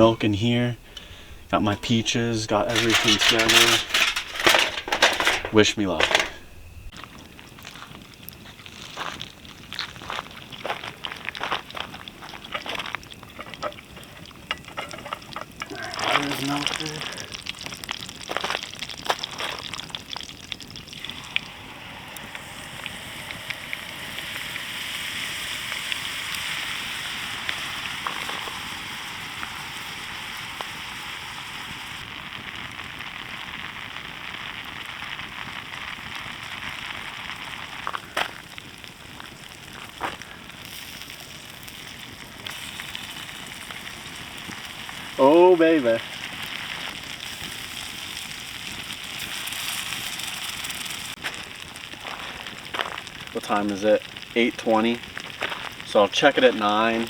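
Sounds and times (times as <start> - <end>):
campfire crackling and popping: 0.0 - 57.0
butter sizzling in a pan: 6.6 - 57.0.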